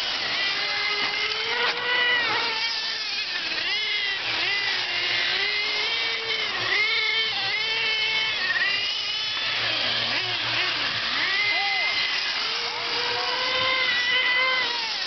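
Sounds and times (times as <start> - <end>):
electric motors whining: 0.0 - 15.0
rc cars racing: 0.0 - 15.0.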